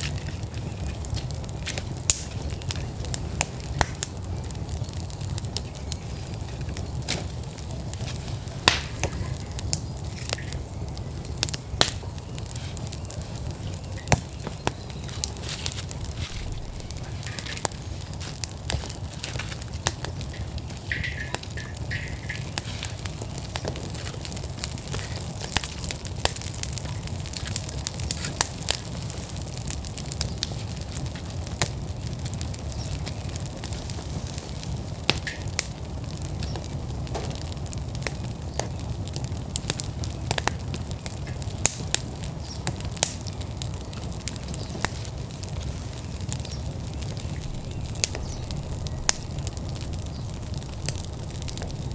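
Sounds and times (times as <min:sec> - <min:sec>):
logs crackling and popping: 0:00.0 - 0:51.9
low rumble of fire: 0:00.0 - 0:51.9.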